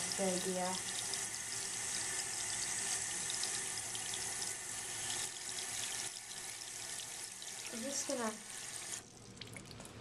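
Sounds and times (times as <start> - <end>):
toilet tank refilling hiss: 0.0 - 9.0.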